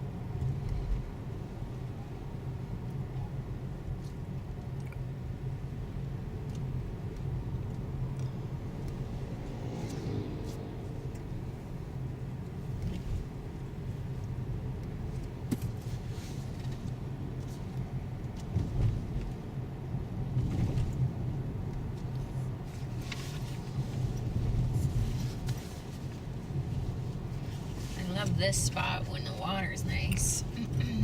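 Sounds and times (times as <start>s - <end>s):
car cabin road noise: 0.0s - 31.0s.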